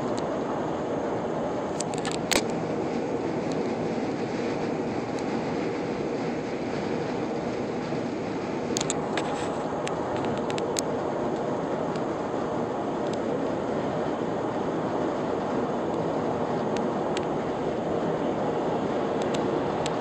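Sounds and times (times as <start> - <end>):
road and wind noise in car: 0.0 - 20.0.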